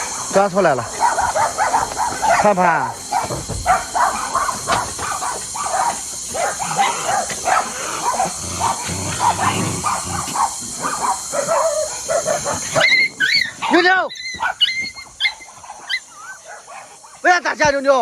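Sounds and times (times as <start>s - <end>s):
many dogs barking and whimpering: 0.0s - 18.0s.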